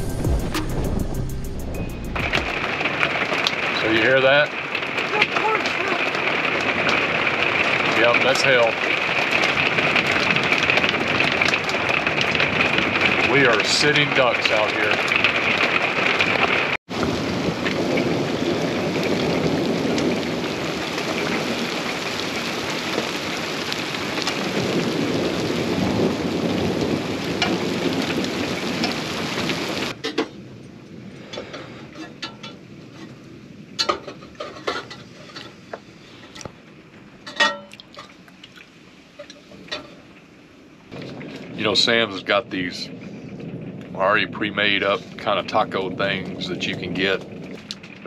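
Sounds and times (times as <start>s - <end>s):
thunder rumbling: 0.0s - 35.5s, 38.9s - 48.0s
heavy rain pouring: 0.0s - 48.0s.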